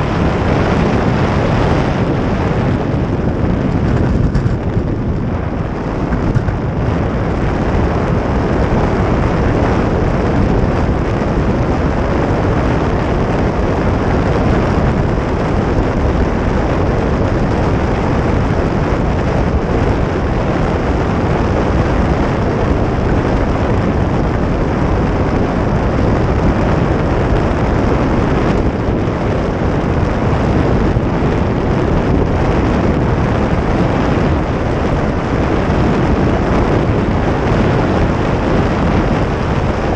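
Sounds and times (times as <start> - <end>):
wheels rumbling on asphalt: 0.0 - 39.9
wind buffeting microphone: 0.0 - 39.9.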